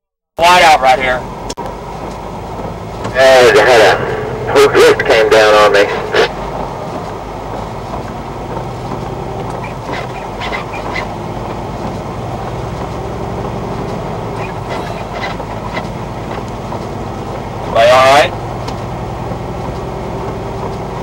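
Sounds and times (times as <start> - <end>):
truck engine and tyres droning: 0.4 - 21.0.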